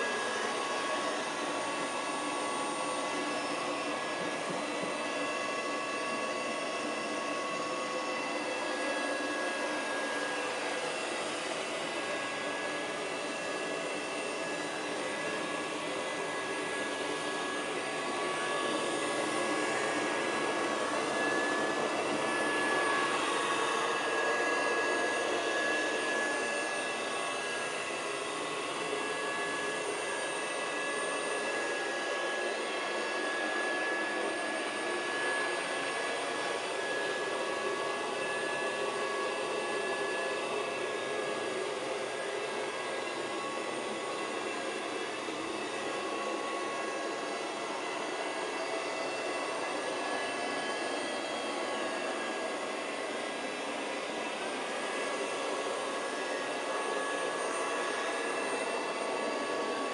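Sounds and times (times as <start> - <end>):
robot vacuum cleaner running: 0.0 - 59.9.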